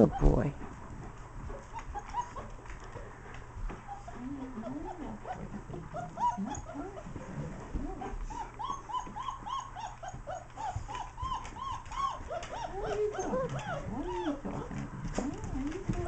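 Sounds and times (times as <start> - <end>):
puppies whimpering: 0.0 - 0.5, 1.6 - 2.9, 3.8 - 16.0.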